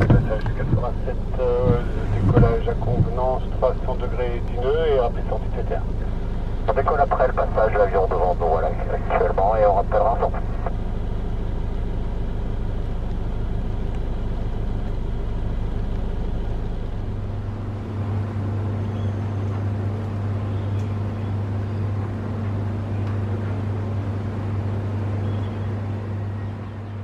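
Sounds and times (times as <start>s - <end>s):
distant jet engines rumbling: 0.0s - 27.0s
steady low hum: 0.0s - 27.0s.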